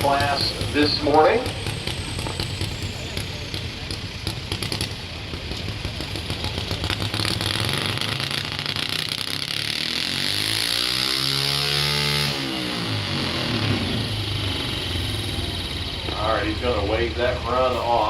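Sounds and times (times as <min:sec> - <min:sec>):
engine running hard under load: 0:00.0 - 0:18.0.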